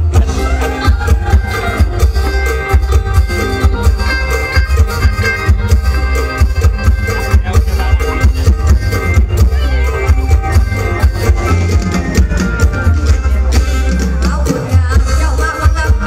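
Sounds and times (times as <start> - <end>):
bass: 0.0 - 16.0
drum kit beat: 0.0 - 16.0
live band playing: 0.0 - 16.0.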